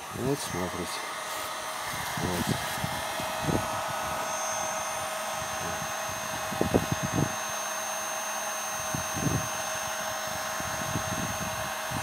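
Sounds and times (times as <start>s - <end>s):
heat gun blowing with fan whine: 0.0s - 12.0s.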